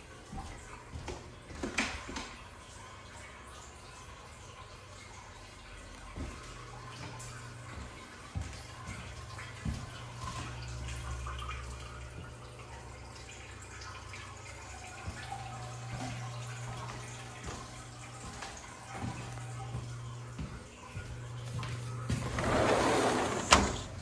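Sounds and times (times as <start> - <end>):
water trickling: 0.0 - 24.0
filter low hum: 2.4 - 24.0.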